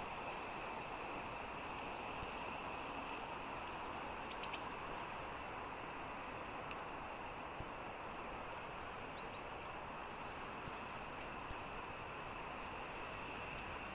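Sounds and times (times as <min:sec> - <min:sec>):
outdoor background hiss and hum: 0:00.0 - 0:13.9
songbirds chirping: 0:00.0 - 0:13.9.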